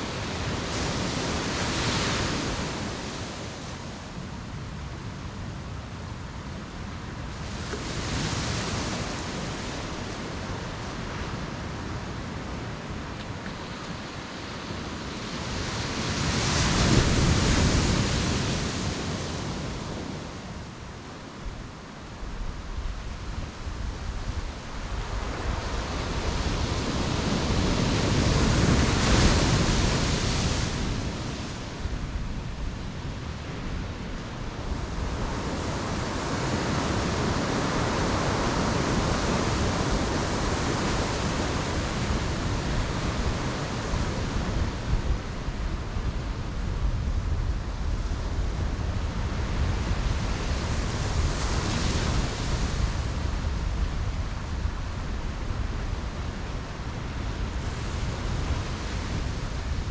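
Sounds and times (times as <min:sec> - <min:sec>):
ocean waves crashing on beach: 0:00.0 - 0:59.9.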